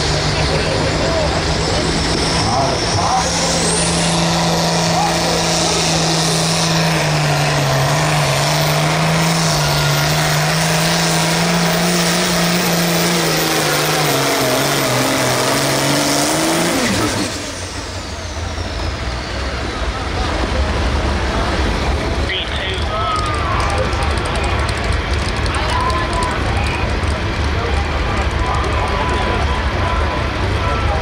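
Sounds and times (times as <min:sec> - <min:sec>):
high turbo whine: 0:00.0 - 0:31.0
tractor diesel engine at full throttle: 0:00.0 - 0:31.0.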